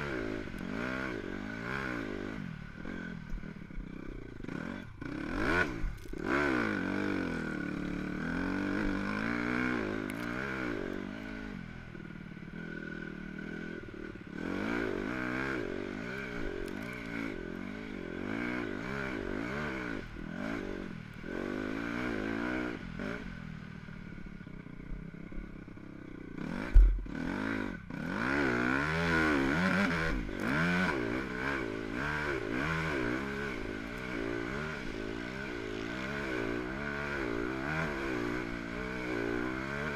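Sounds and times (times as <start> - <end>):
dirt bike engine revving: 0.0 - 23.9, 24.9 - 39.9.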